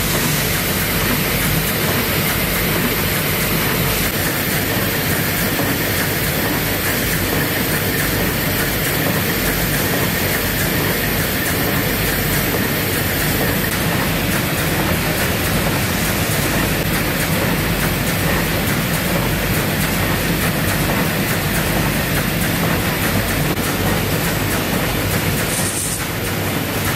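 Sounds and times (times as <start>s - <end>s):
printing machine running: 0.0s - 26.9s.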